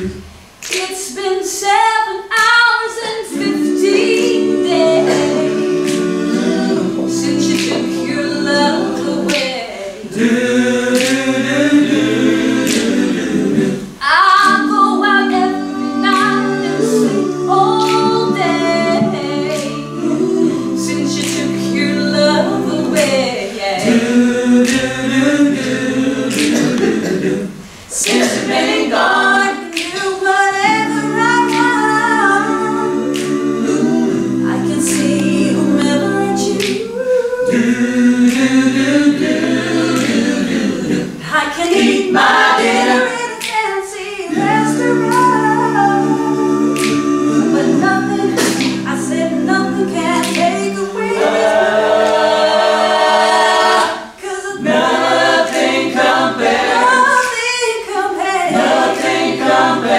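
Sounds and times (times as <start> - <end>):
a cappella group singing in harmony: 0.0 - 59.9.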